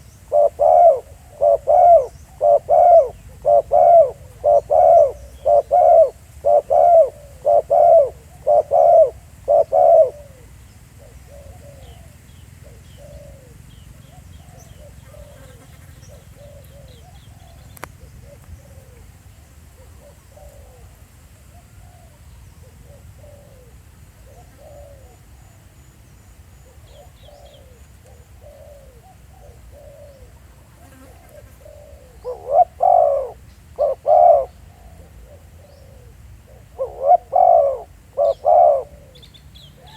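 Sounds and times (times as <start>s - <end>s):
dove cooing: 0.0s - 25.4s, 26.6s - 39.9s.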